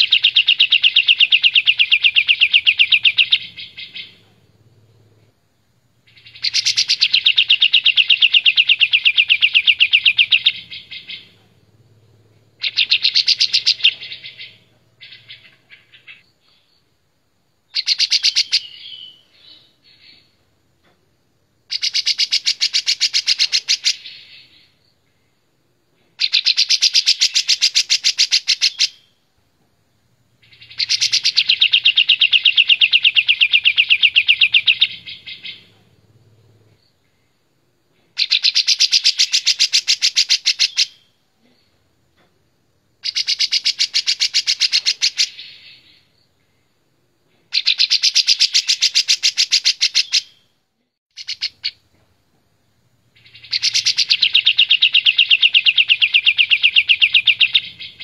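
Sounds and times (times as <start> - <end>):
bird singing rapid trill: 0.0 - 5.2, 6.0 - 16.3, 17.7 - 20.4, 21.7 - 24.8, 26.2 - 29.2, 30.4 - 37.3, 38.1 - 41.2, 43.0 - 46.3, 47.5 - 50.5, 51.1 - 51.8, 52.7 - 58.0.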